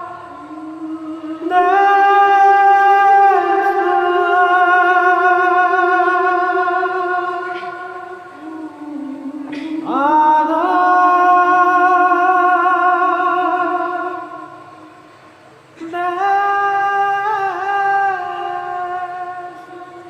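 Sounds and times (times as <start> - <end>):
person singing wordless notes: 0.0 - 20.0.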